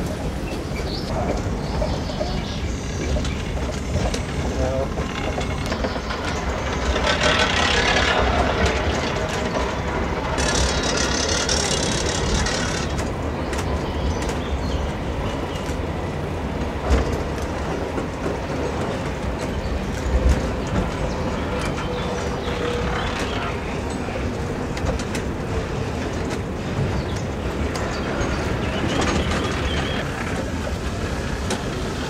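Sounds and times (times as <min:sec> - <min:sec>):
funicular wheels rumbling and rattling: 0:00.0 - 0:32.0.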